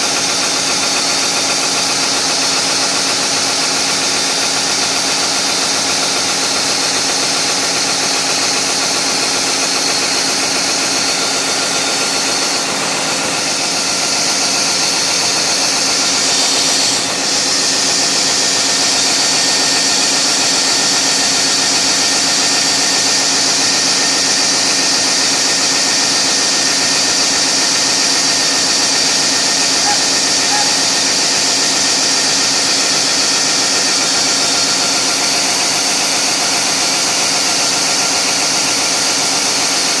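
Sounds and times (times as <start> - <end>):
large diesel engine running: 0.0 - 40.0.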